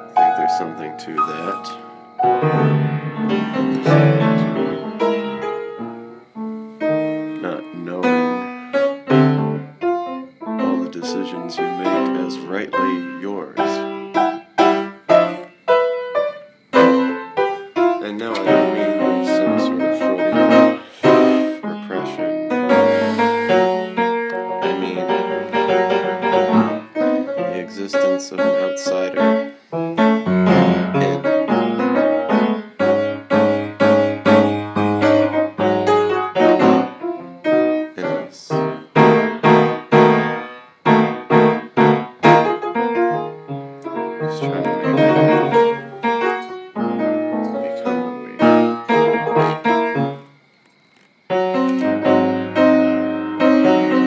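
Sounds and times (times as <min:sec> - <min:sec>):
piano music: 0:00.0 - 0:50.4, 0:51.3 - 0:54.0.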